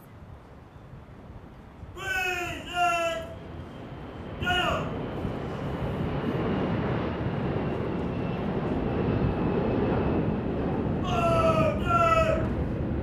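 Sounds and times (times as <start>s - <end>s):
jet aircraft rumble: 0.0s - 13.0s.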